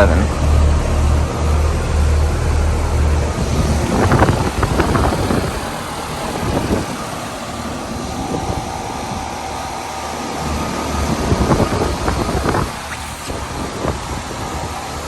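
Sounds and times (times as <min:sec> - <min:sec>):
fan air noise: 0:00.0 - 0:15.0
heat pump compressor hum: 0:00.0 - 0:15.0
steady tone: 0:00.0 - 0:15.0.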